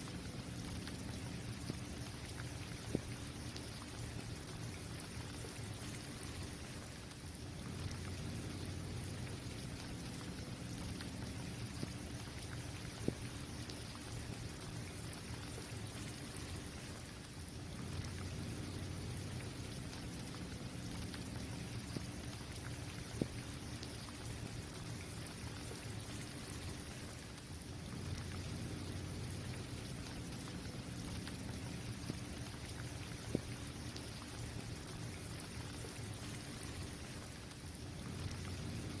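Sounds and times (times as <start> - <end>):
rain falling on a court: 0.0 - 39.0.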